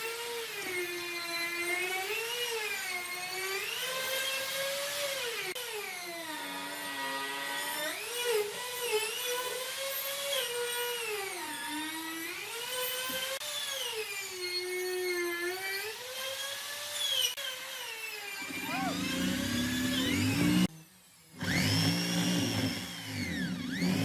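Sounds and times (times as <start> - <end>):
power tool whining on wood: 0.0 - 24.0.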